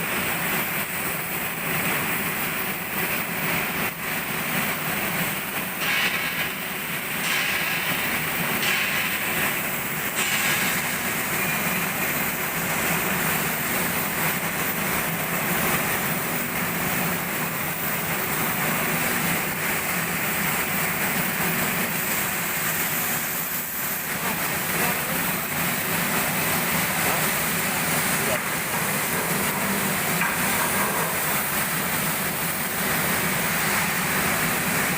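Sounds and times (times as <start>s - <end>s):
workshop mechanical noise: 0.0s - 34.9s.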